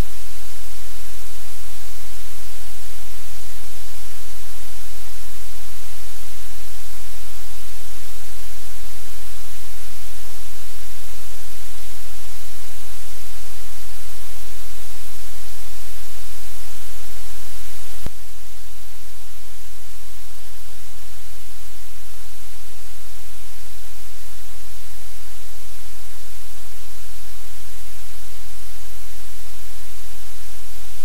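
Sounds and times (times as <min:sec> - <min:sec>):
loud static hiss: 0:00.0 - 0:31.0.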